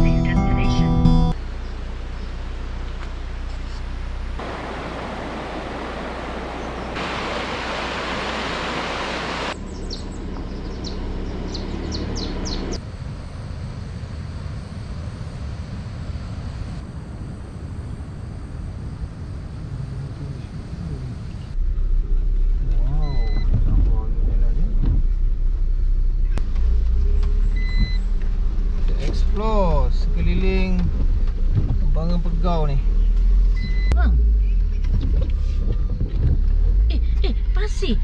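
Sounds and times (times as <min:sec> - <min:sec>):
low rumbling noise: 0:01.3 - 0:38.0.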